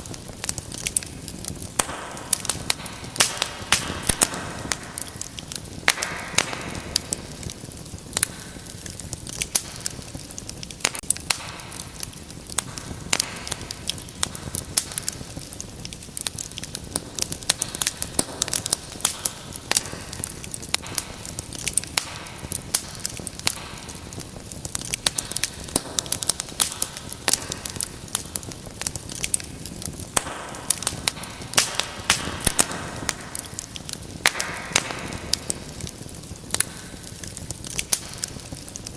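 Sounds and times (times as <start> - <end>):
low rush of flames: 0.0 - 38.9
wood fire crackling and popping: 0.0 - 38.9.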